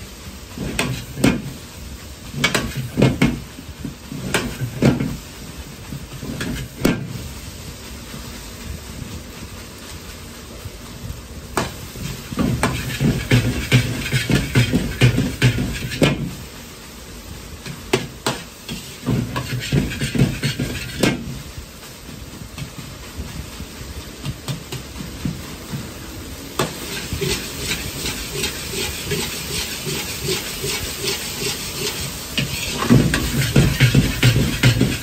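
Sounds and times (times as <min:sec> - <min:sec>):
gas burner hiss: 0:00.0 - 0:35.0
rice sizzling: 0:00.0 - 0:35.0.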